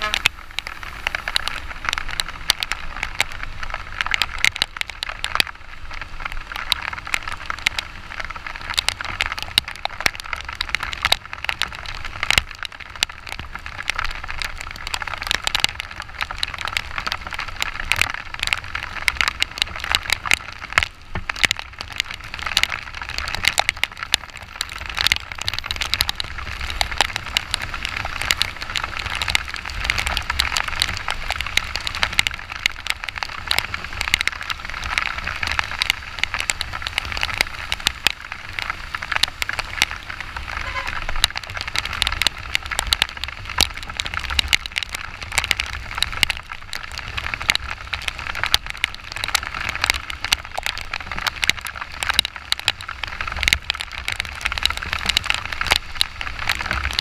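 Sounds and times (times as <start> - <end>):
heavy rain hitting camera: 0.0 - 57.0.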